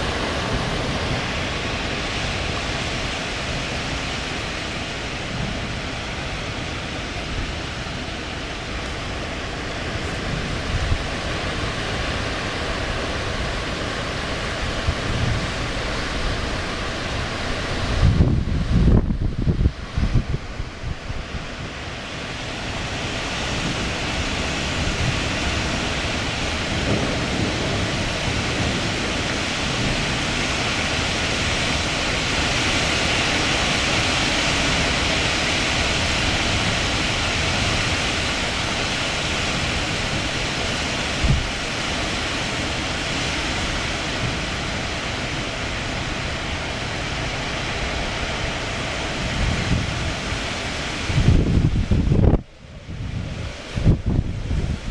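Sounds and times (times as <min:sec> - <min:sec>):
wind buffeting microphone: 0:00.0 - 0:54.9
wind rushing through trees: 0:00.0 - 0:54.9.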